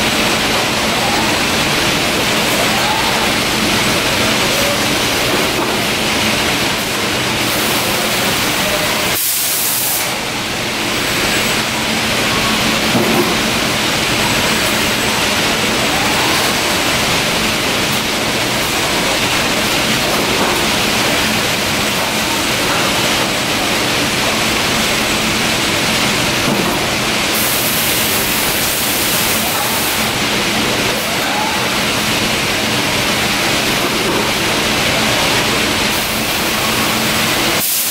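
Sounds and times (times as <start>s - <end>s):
factory machinery hiss: 0.0s - 37.9s.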